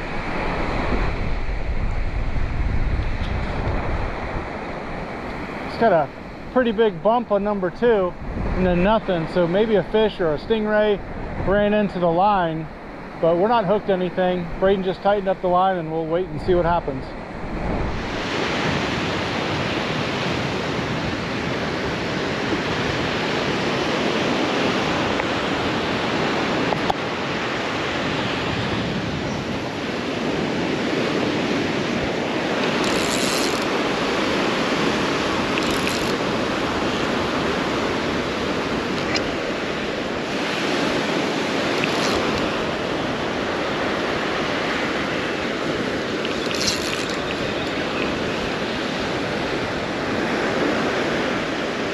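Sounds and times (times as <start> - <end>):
wind on microphone: 0.0 - 13.6, 16.1 - 51.9
surf breaking on a beach: 0.0 - 51.9.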